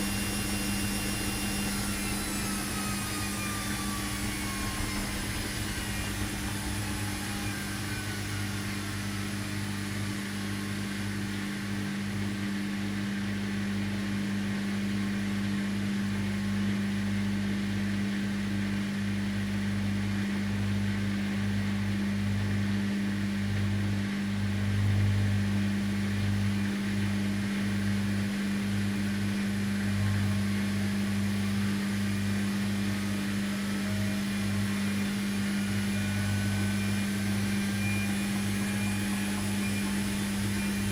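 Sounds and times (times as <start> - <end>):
drum whine: 0.0 - 40.9
washing machine motor hum: 0.0 - 40.9.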